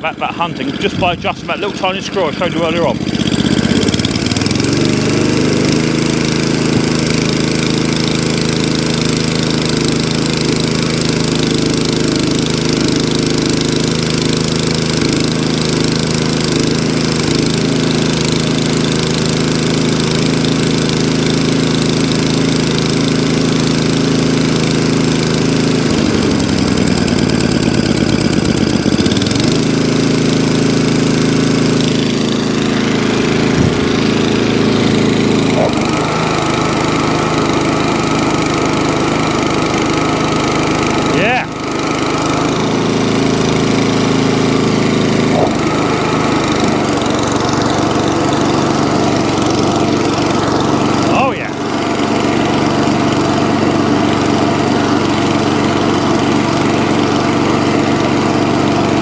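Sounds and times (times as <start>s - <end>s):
lawn mower engine revving: 0.0s - 59.0s.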